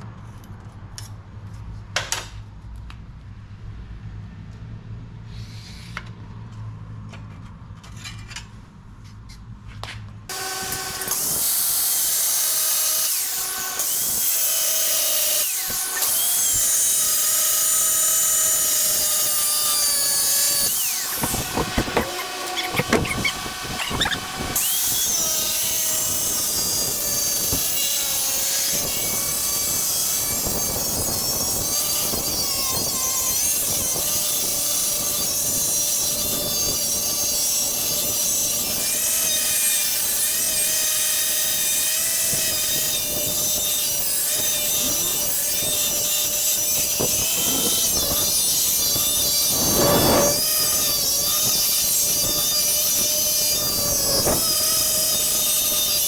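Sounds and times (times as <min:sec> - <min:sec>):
power tool cutting steel: 0:10.3 - 0:56.0.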